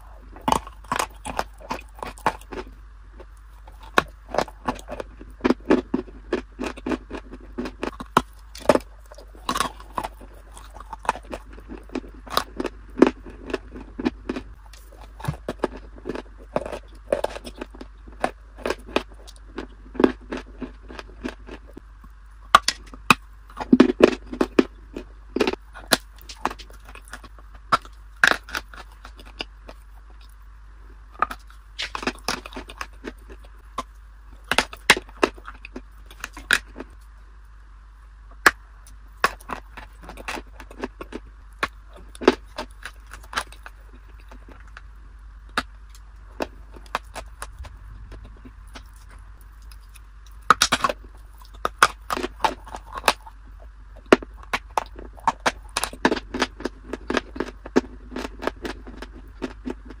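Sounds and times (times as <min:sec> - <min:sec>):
crunchy food chewing: 0:00.0 - 1:00.0.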